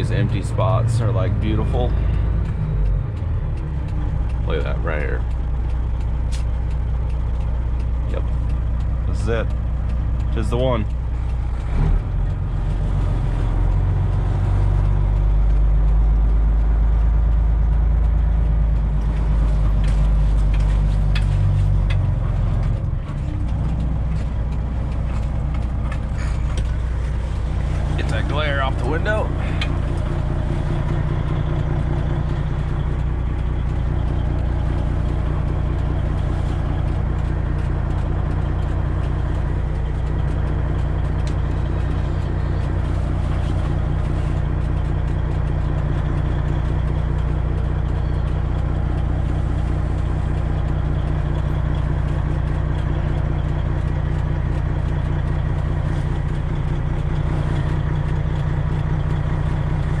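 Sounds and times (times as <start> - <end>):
truck diesel engine droning: 0.0 - 60.0.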